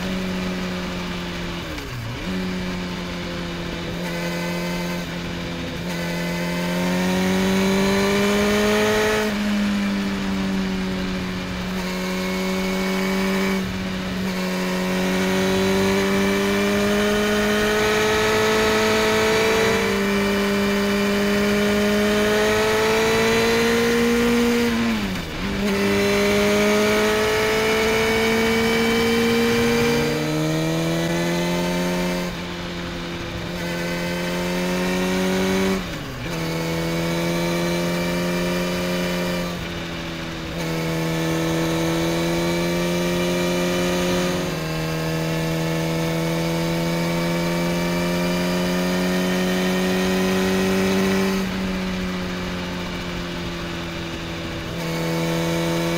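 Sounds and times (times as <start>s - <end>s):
motorcycle engine: 0.0s - 55.9s.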